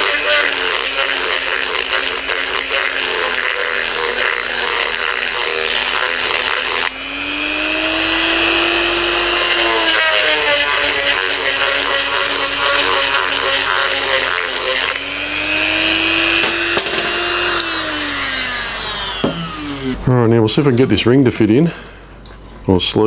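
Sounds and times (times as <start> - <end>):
rotary tool whining: 0.0 - 20.9.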